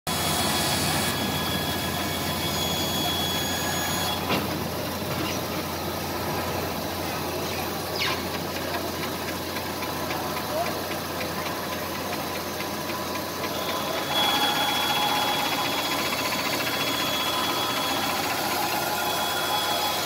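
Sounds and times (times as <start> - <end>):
band saw running: 0.1 - 20.0.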